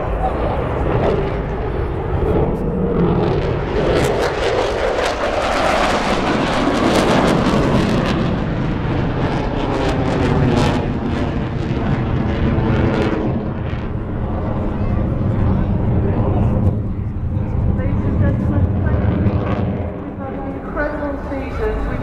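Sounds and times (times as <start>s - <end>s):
jet engines crackling: 0.0s - 22.0s.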